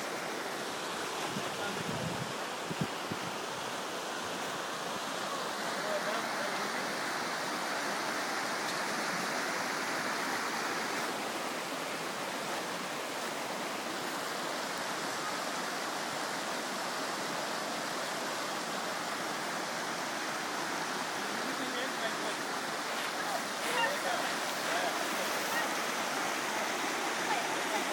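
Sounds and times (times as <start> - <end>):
creek rushing over boulders: 0.0 - 27.9.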